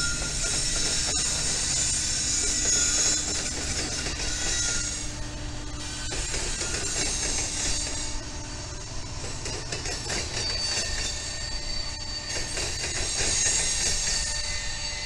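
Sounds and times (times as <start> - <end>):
high-pitched wheel squeal: 0.0 - 8.3, 10.3 - 15.0
locomotive engine rumbling: 0.0 - 12.5.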